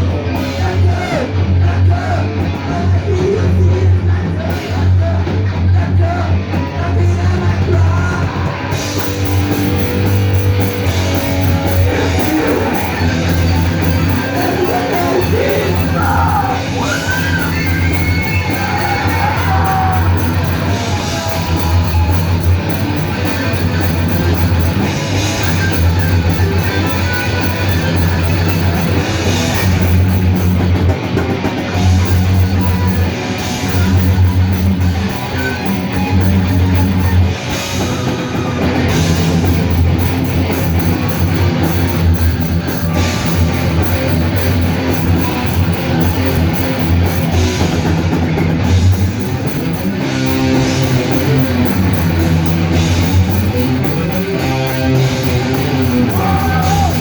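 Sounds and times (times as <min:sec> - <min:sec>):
electric guitar: 0:00.0 - 0:57.0
drum kit: 0:08.8 - 0:57.0.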